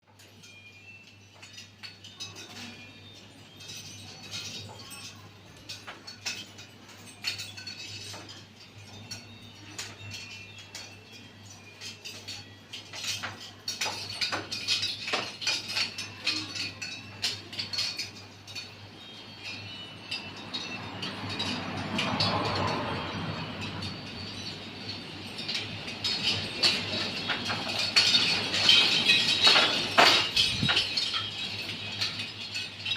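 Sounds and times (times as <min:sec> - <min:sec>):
clinks and taps with ringing tones: 0:00.0 - 0:32.9.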